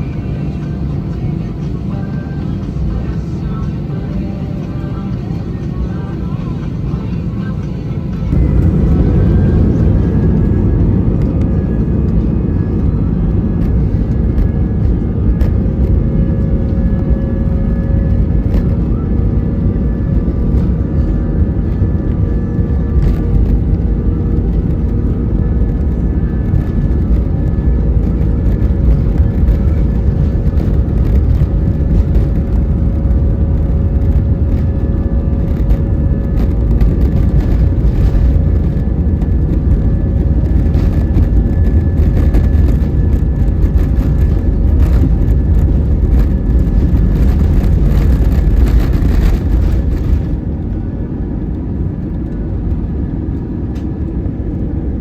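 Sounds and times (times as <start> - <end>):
faint hum: 0.0 - 55.0
jet engines rumbling in cabin: 0.0 - 55.0.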